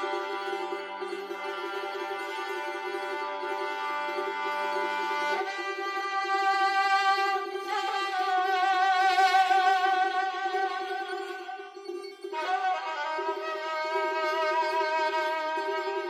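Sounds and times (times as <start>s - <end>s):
violin playing slow notes: 0.0s - 16.0s.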